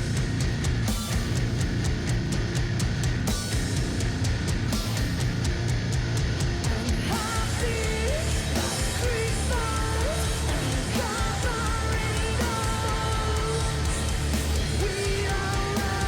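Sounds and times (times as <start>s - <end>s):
guitar melody with bending notes: 0.0s - 15.5s
heavy metal band playing live: 0.0s - 16.0s.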